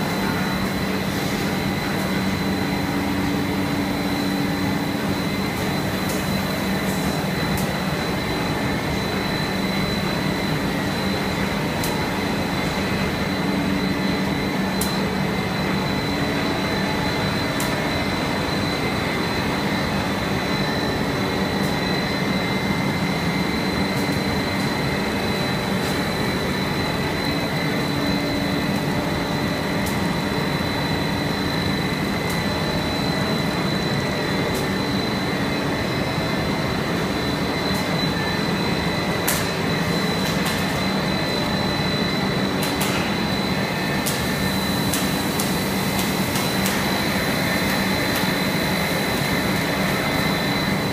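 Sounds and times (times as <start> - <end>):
industrial machinery drone: 0.0 - 50.9.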